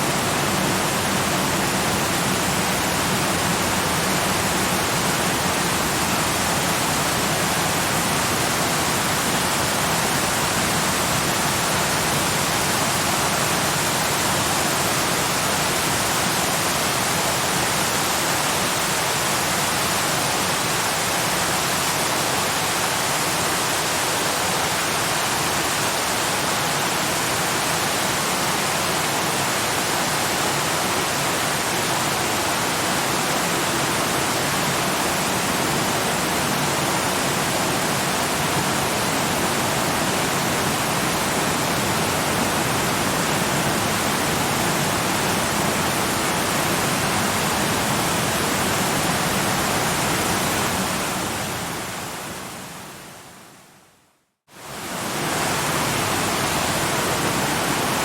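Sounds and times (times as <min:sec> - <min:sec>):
waterfall rushing: 0:00.0 - 0:53.0, 0:54.6 - 0:58.0.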